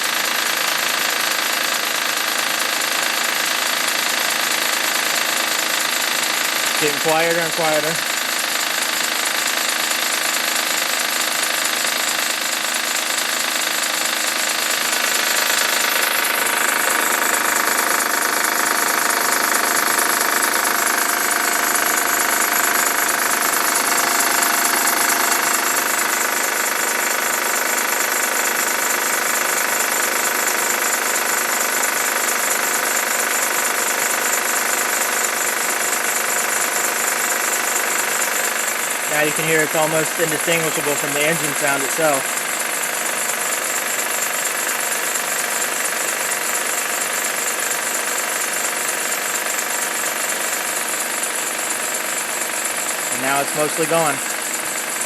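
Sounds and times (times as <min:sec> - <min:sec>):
fast rhythmic engine rattle: 0:00.0 - 0:55.0.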